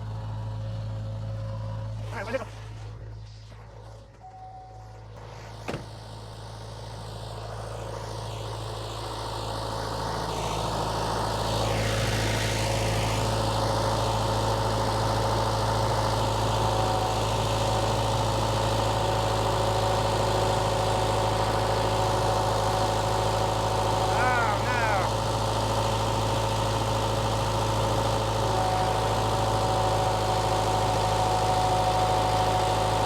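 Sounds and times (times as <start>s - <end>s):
diesel engine revving under load: 5.0s - 33.0s.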